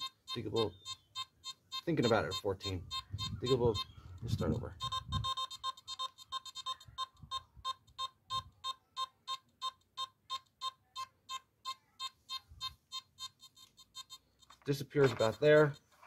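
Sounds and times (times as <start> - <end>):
metal detector target beeps: 0.0 - 15.9.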